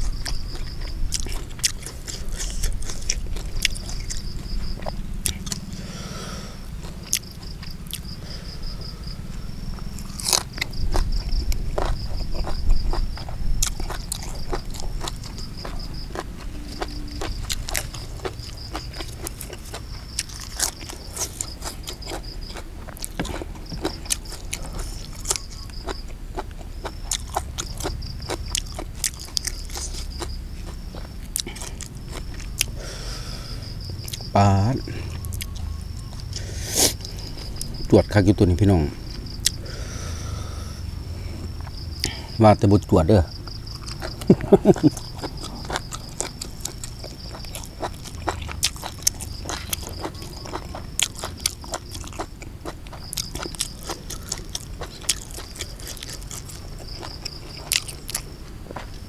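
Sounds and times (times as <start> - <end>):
insect trill: 0.0 - 59.0
wet chewing and crunching: 0.0 - 59.0.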